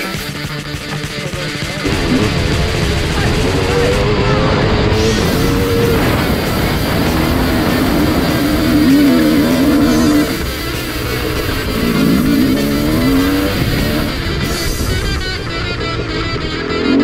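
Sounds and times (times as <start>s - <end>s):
dirt bike engine revving: 0.0s - 17.0s
rock music with guitar: 0.0s - 17.0s.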